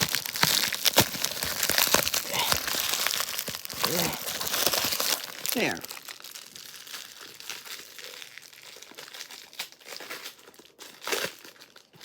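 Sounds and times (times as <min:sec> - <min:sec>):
wrapping being torn and crumpled: 0:00.0 - 0:12.0.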